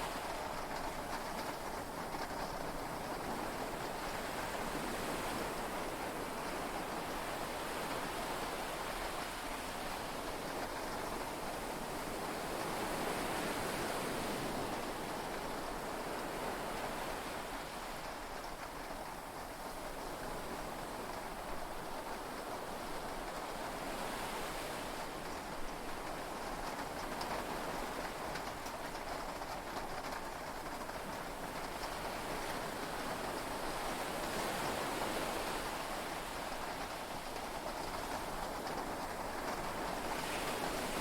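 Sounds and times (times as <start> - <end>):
heavy rain and sea waves: 0.0 - 41.0.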